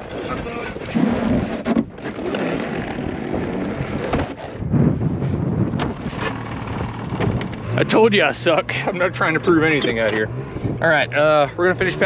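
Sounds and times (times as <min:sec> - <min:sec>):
wind on microphone: 0:00.0 - 0:08.1, 0:08.9 - 0:12.0
snowmobile engine running: 0:00.1 - 0:12.0.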